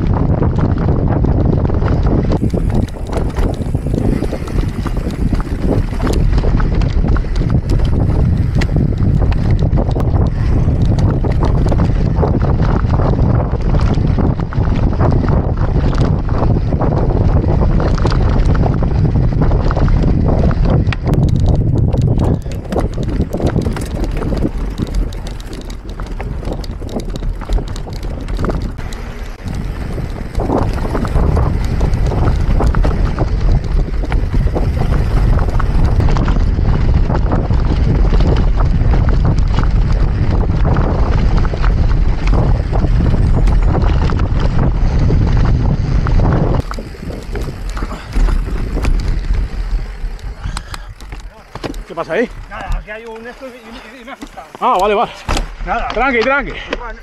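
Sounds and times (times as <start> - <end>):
bike clattering on rough trail: 0.0 - 57.0
low tyre rumble: 0.0 - 57.0
wind buffeting microphone: 0.0 - 57.0.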